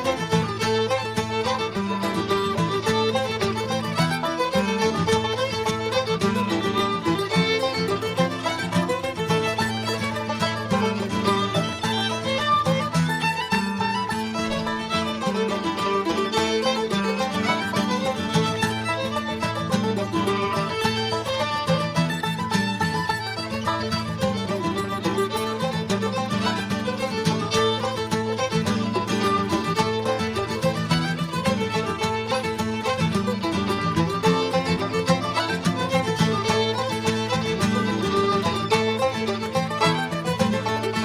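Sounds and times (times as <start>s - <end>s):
bluegrass string band playing: 0.0s - 41.0s
fiddle leading: 0.0s - 41.0s.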